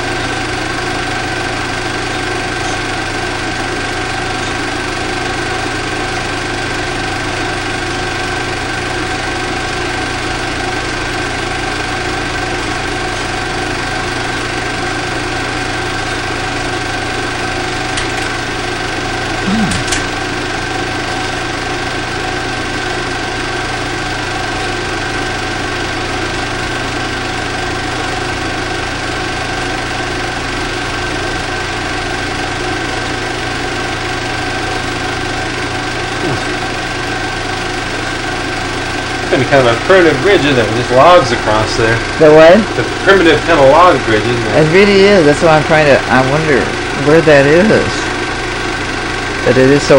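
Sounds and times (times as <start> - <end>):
small motor humming: 0.0 - 49.9.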